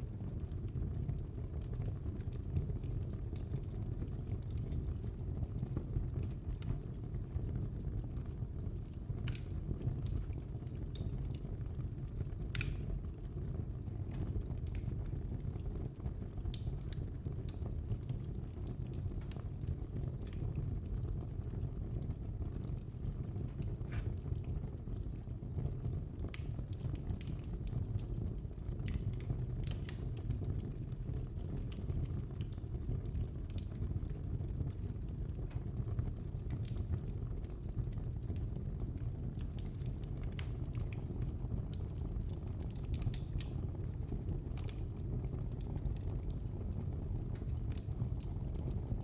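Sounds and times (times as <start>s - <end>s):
low rumble of fire flames: 0.0s - 49.0s
wood fire crackling and popping: 0.0s - 49.0s.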